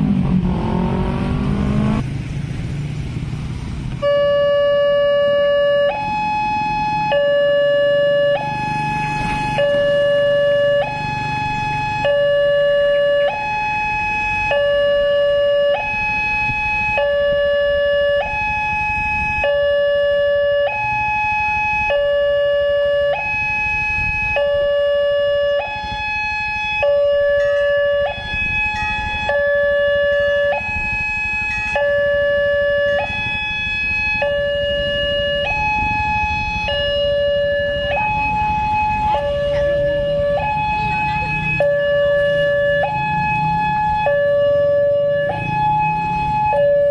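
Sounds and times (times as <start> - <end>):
two-tone level crossing alarm: 4.0 - 46.9.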